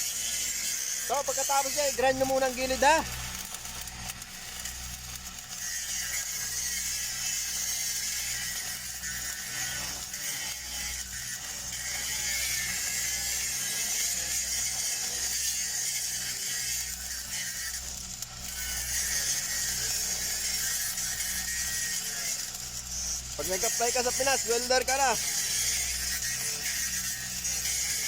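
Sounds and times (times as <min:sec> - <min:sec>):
welding arc crackling: 0:00.0 - 0:28.0.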